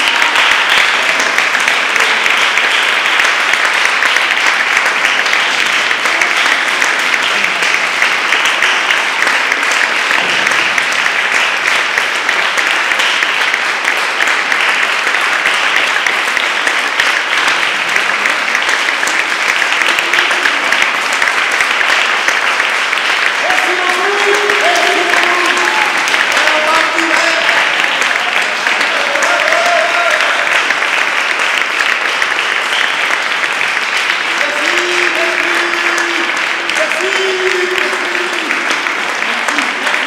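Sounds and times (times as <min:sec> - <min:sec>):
audience applauding: 0:00.0 - 0:40.0.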